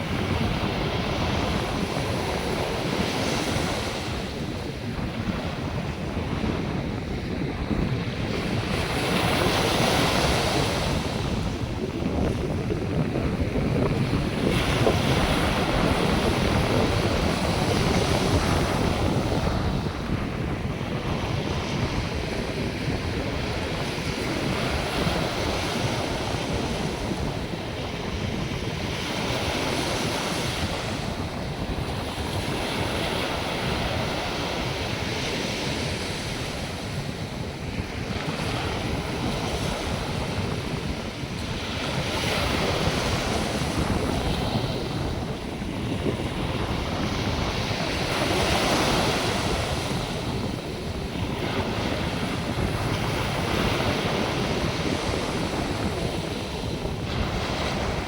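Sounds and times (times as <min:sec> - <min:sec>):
waves breaking on beach: 0:00.0 - 0:58.0
wind buffeting microphone: 0:00.0 - 0:58.0.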